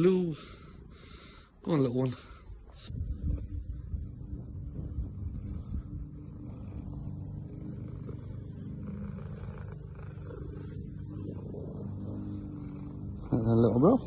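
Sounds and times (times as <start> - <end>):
cat purring: 0.1 - 14.0.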